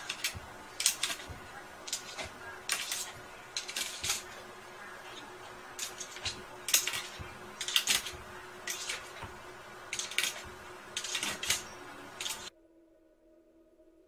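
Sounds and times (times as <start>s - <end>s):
dog claws scratching wood: 0.0s - 12.5s.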